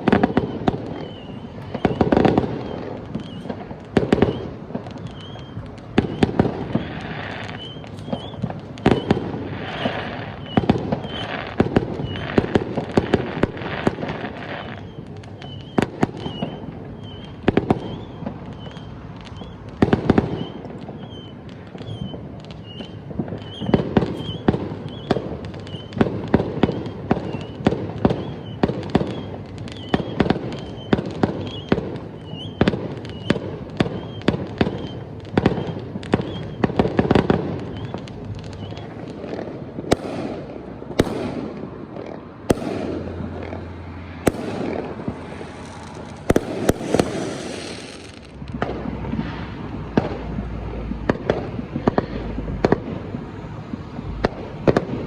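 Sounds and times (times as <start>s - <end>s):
fireworks bangs and crackles: 0.0s - 55.0s
hissing crackling fireworks bursts: 0.0s - 55.0s.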